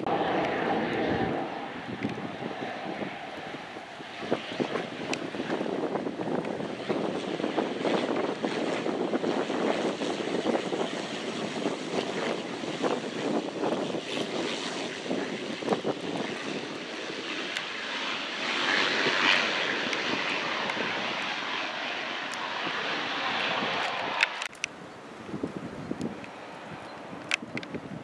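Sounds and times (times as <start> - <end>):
aircraft engine noise: 0.0 - 28.0.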